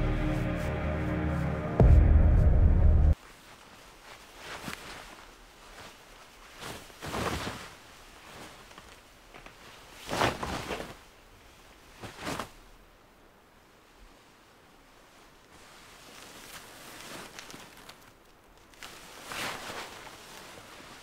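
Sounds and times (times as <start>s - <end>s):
fabric rustling and swishing: 3.1s - 21.0s.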